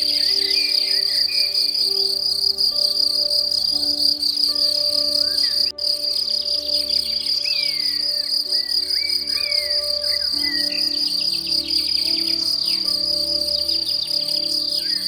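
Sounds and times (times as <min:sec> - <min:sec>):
cricket trill: 0:00.0 - 0:15.0
soft music of held notes: 0:00.0 - 0:15.0.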